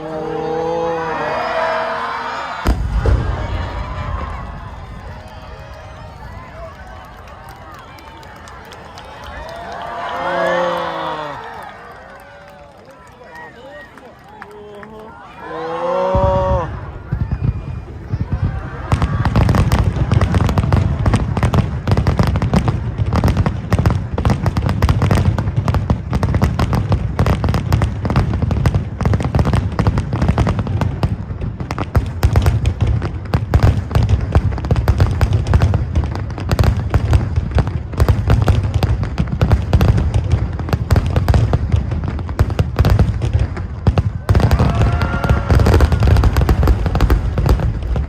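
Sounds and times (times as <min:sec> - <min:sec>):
deep fireworks booms: 0:01.1 - 0:10.2, 0:16.1 - 0:48.0
fireworks banging and crackling: 0:01.4 - 0:15.1, 0:16.1 - 0:48.0.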